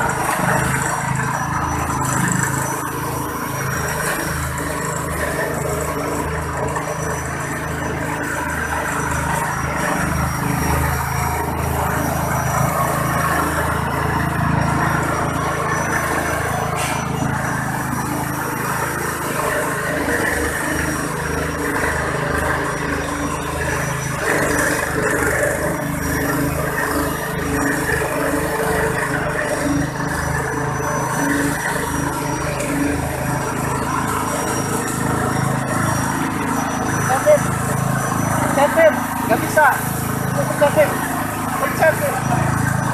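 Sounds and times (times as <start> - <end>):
small petrol engine running: 0.0 - 42.9.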